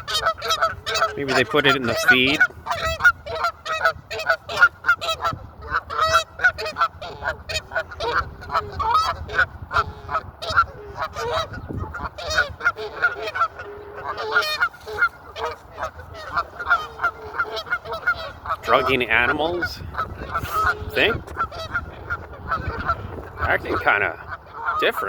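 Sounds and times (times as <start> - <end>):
flock of birds calling: 0.0 - 25.0.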